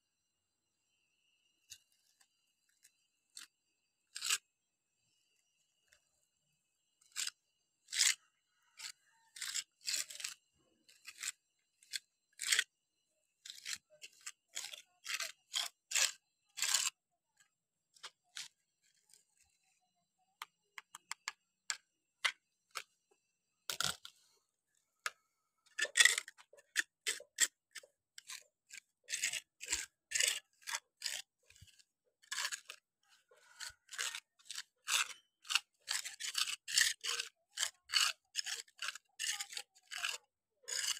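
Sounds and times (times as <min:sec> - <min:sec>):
trowel scraping grout on concrete: 0:01.6 - 0:04.5, 0:06.9 - 0:40.9.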